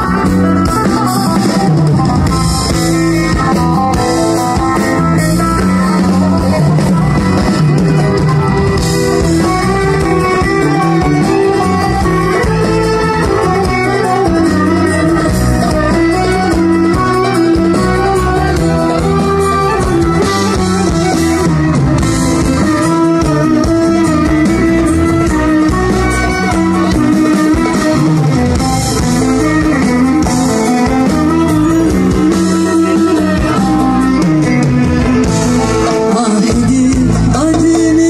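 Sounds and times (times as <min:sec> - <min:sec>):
guitar: 0:00.0 - 0:38.0
live band playing: 0:00.0 - 0:38.0.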